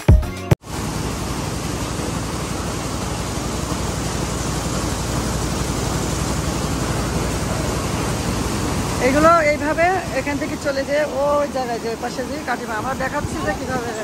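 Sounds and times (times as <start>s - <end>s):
low machinery hum: 0.6s - 14.0s
mill machinery din: 0.6s - 14.0s.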